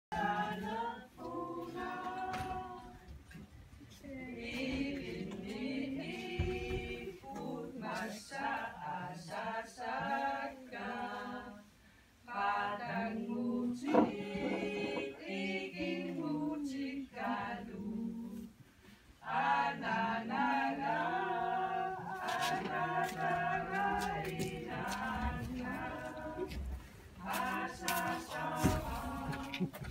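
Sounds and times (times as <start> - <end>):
group singing unaccompanied: 0.1 - 3.4, 4.0 - 29.9.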